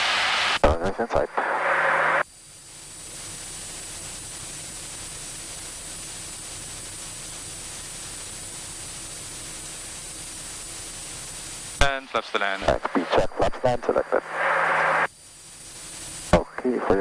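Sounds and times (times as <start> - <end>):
intercom hiss: 0.0 - 17.0.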